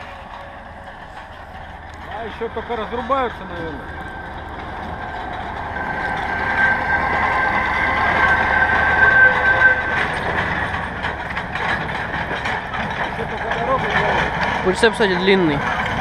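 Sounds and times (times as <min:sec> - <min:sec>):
truck driving past: 0:00.0 - 0:16.0.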